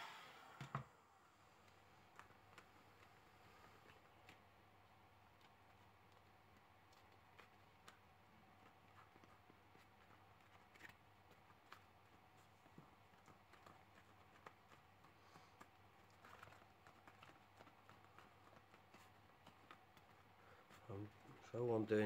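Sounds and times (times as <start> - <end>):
foam rubbing and ticks: 1.5 - 22.0.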